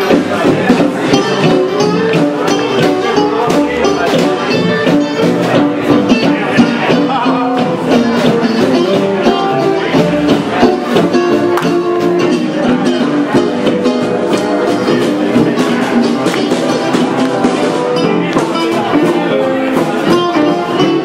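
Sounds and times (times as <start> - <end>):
acoustic guitars strumming: 0.0 - 21.0
lead melody: 0.0 - 21.0.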